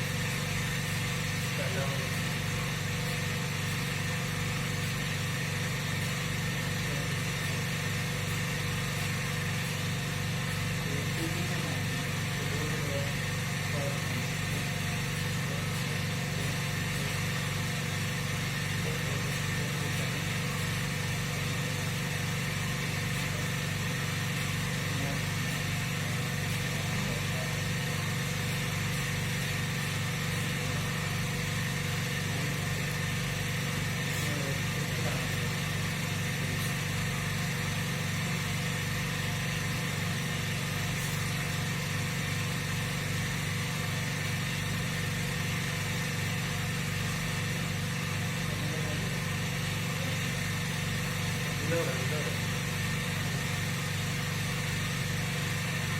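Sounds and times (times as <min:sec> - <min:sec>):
machine hum: 0:00.0 - 0:55.9.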